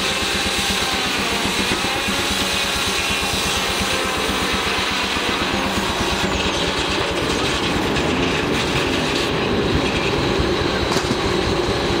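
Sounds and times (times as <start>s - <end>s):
sawmill clatter and chugging: 0.0s - 12.0s.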